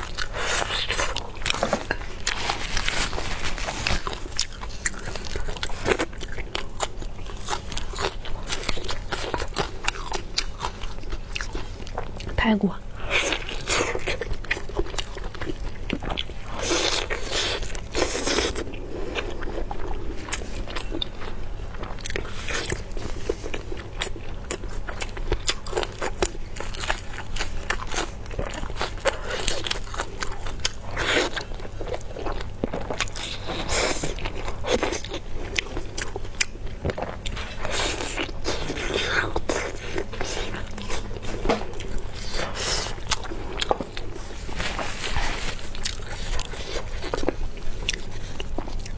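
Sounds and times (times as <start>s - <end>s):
crunching and chewing: 0.0s - 48.9s
faint low hum: 0.0s - 48.9s.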